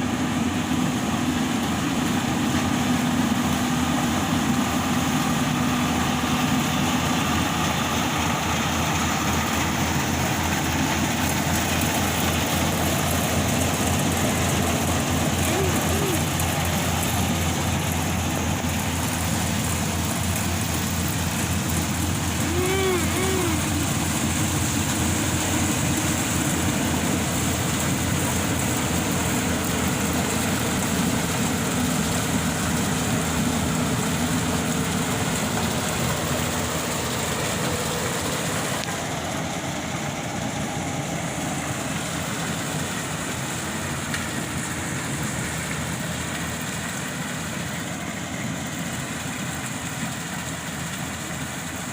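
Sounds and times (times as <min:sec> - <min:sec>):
combine harvester diesel engine: 0:00.0 - 0:51.9.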